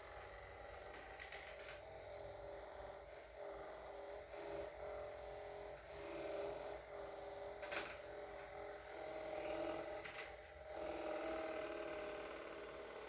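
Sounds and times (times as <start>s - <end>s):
massage gun motor hum: 0.0s - 13.0s.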